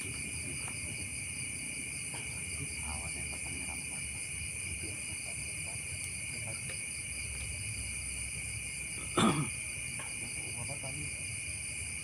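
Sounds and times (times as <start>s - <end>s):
night insects shrilling: 0.0s - 12.0s.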